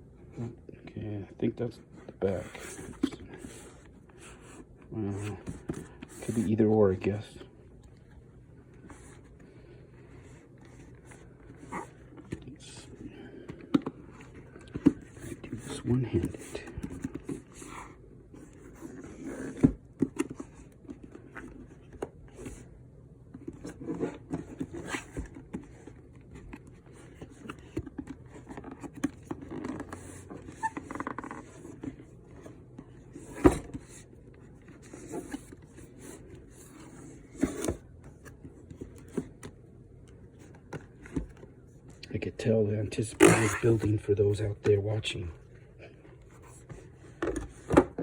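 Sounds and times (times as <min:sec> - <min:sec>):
cardboard scraping and rubbing: 0:02.2 - 0:07.2, 0:08.8 - 0:22.7, 0:23.4 - 0:39.6, 0:43.2 - 0:44.8, 0:45.4 - 0:48.0.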